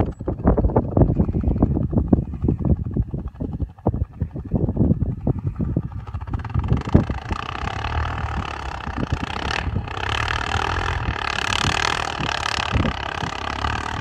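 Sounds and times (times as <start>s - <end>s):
quad engine under load: 0.0s - 14.0s.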